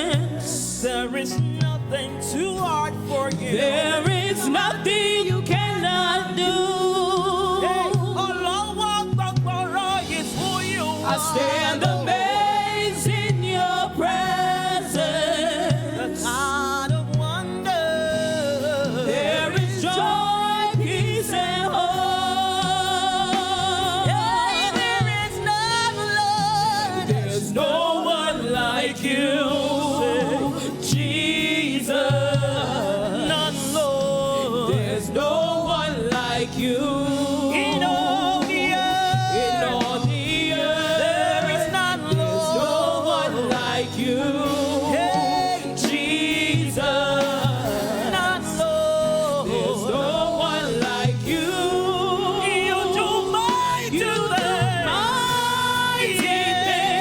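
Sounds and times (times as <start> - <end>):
band accompaniment: 0.0 - 57.0
gospel singing with vibrato: 0.0 - 57.0.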